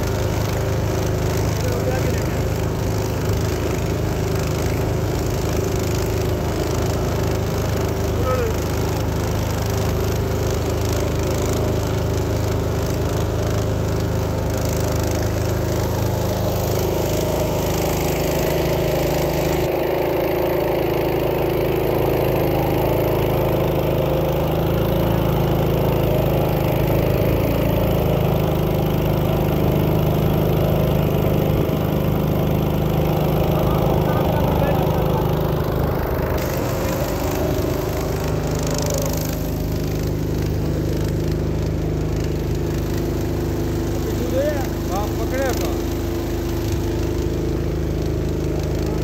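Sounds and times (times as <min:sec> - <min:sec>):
boat engine running: 0:00.0 - 0:49.0.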